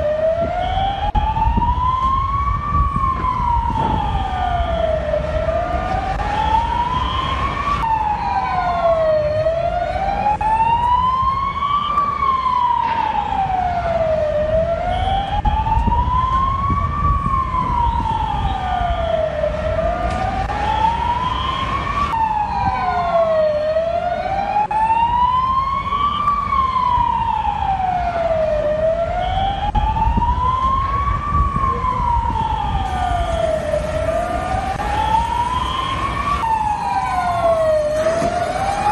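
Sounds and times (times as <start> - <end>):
emergency siren wailing: 0.0 - 38.9.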